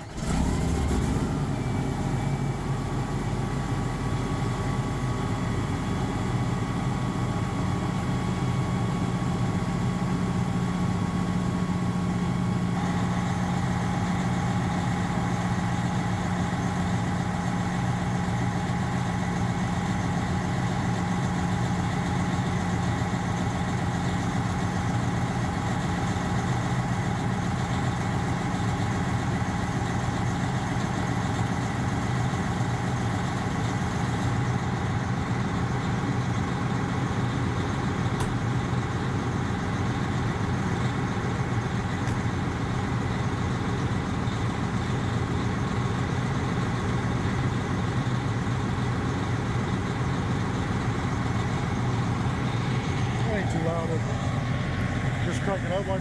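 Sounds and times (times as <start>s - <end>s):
truck diesel engine idling: 0.0s - 56.0s.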